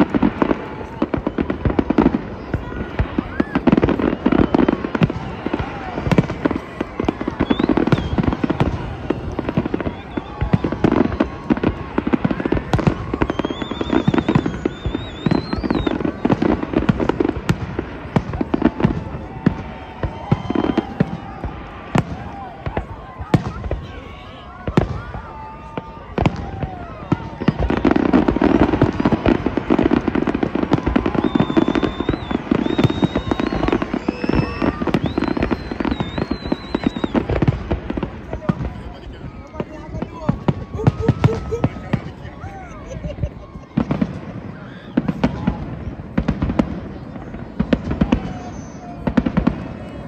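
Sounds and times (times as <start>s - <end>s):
warbling firework whistle: 0.0s - 42.1s, 42.7s - 50.0s
fireworks bangs and crackling: 0.0s - 50.0s.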